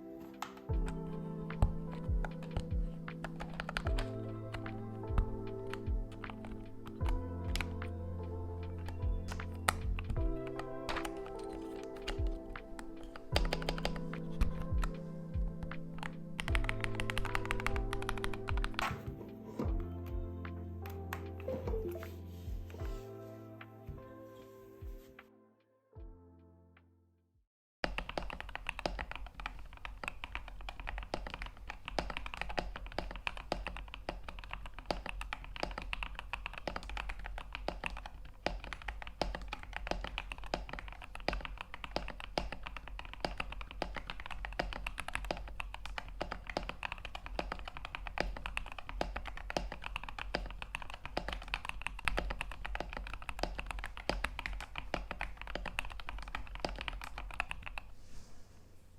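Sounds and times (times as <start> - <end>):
mechanical keyboard typing: 0.3 - 19.1, 27.8 - 57.9.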